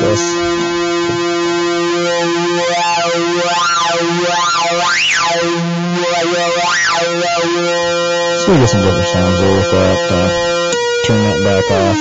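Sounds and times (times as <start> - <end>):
synthesizer hard-synced tone: 0.0 - 12.0.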